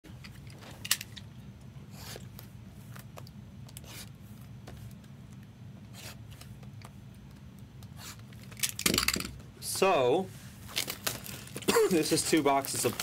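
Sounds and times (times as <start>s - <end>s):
steady low hum: 0.1s - 13.0s.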